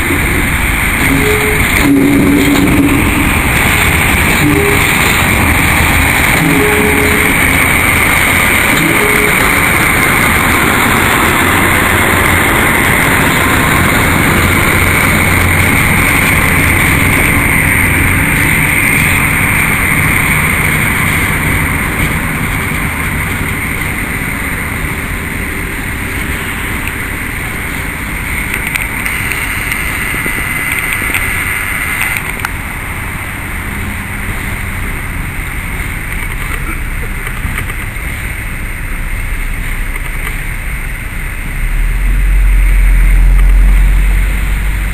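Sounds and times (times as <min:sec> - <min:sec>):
diesel locomotive engine rumble: 0:00.0 - 0:44.9.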